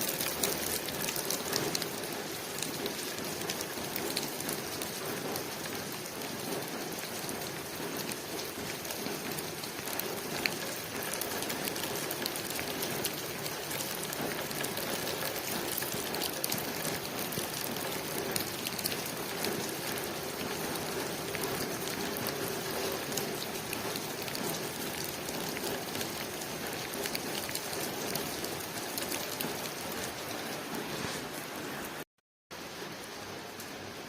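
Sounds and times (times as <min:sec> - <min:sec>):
rain on a window: 0:00.0 - 0:34.0.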